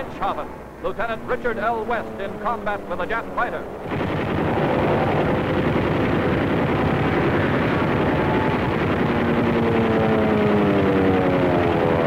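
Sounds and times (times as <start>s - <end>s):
aircraft engine drone: 0.0s - 12.0s
rising engine tone: 0.0s - 12.0s.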